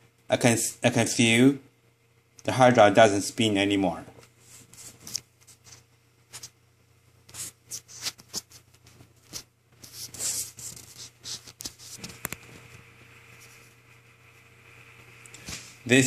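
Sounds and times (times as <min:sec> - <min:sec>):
faint high whine: 0:00.0 - 0:16.0
faint steady hum: 0:00.0 - 0:16.0.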